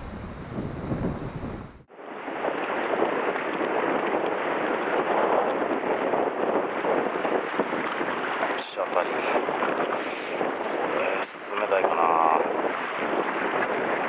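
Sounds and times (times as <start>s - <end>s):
wind buffeting microphone: 0.0s - 14.0s
sea water washing on rocks: 2.0s - 14.0s.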